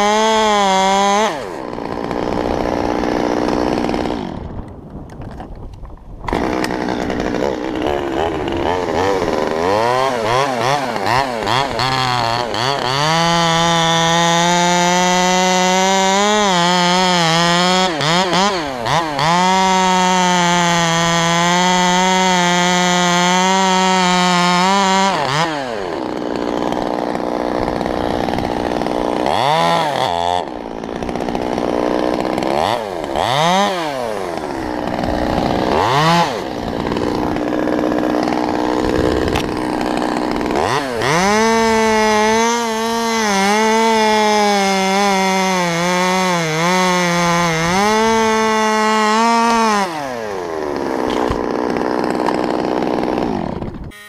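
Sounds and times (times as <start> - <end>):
chainsaw revving and cutting wood: 0.0 - 5.5, 6.2 - 54.0.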